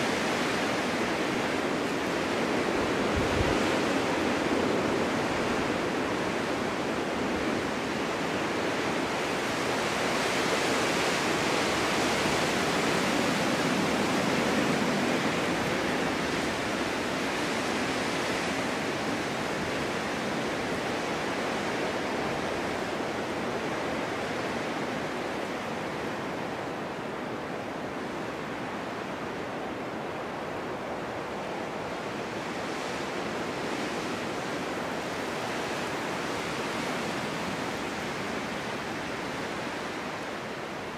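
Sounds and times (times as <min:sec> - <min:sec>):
snowstorm wind rushing: 0:00.0 - 0:40.9.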